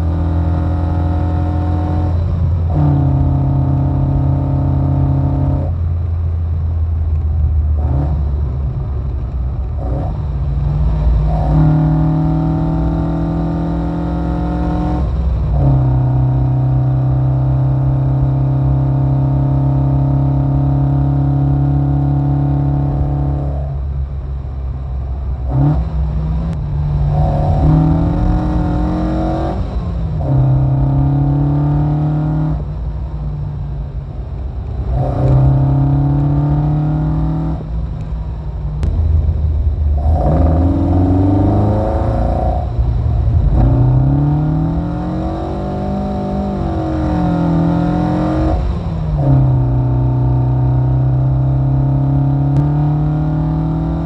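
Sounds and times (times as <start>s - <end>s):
car engine revving hard: 0.0s - 5.8s, 7.8s - 8.3s, 9.8s - 23.7s, 25.4s - 32.8s, 34.8s - 37.7s, 39.9s - 54.0s.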